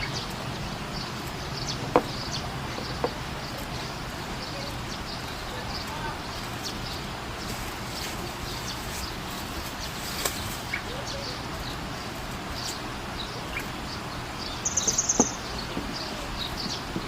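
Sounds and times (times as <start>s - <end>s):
steady background hiss: 0.0s - 17.0s
sunbird chirping: 0.0s - 17.0s.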